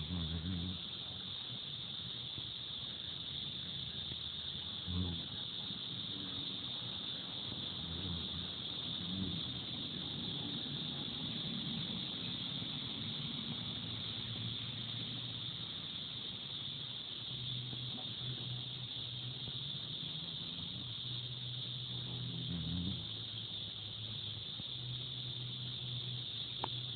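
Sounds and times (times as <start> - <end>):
faint low rumble: 0.0 - 26.9
insect chorus trilling: 0.0 - 26.9.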